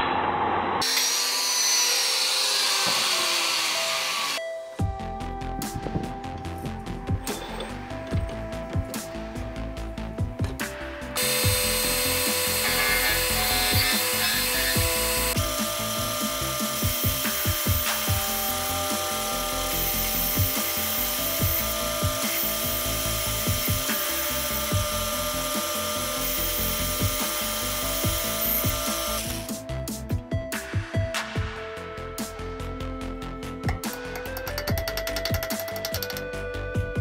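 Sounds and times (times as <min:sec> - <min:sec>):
background music with steady beat: 0:04.0 - 0:37.0.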